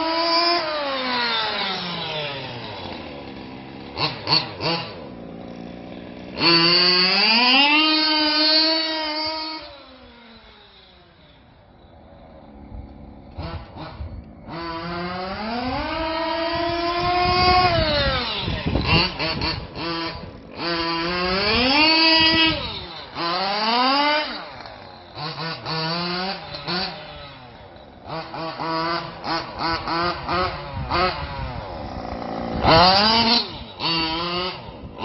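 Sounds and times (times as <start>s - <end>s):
rc truck engine revving: 0.0s - 35.0s.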